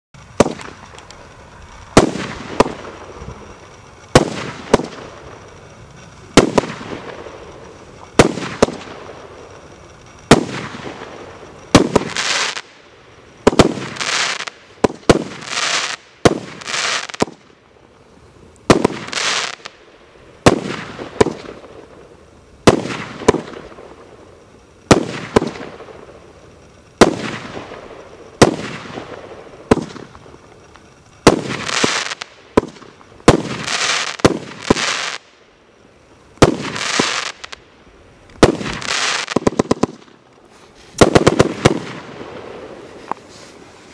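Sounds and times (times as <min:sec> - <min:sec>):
firework launch bangs: 0:00.2 - 0:12.8, 0:13.4 - 0:17.6, 0:18.6 - 0:19.8, 0:20.4 - 0:21.9, 0:22.6 - 0:24.1, 0:24.8 - 0:35.3, 0:36.4 - 0:37.6, 0:38.3 - 0:43.6
firework shells bursting: 0:00.2 - 0:17.6, 0:18.5 - 0:43.9
crackling firework hisses: 0:00.2 - 0:43.9.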